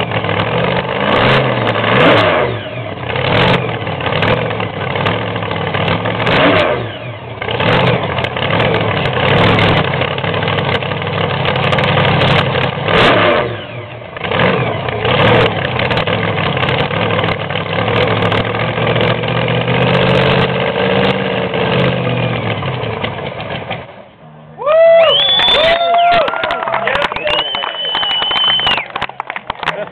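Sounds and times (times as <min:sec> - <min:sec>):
drag racing engine cackling: 0:00.0 - 0:29.9.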